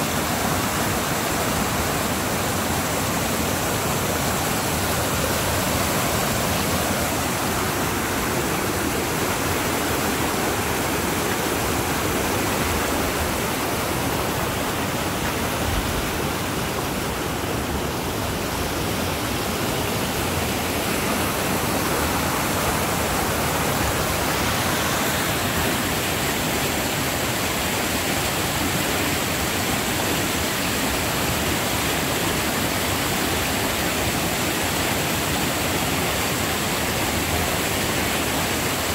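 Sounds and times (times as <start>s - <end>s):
water rushing through rapids: 0.0s - 38.9s.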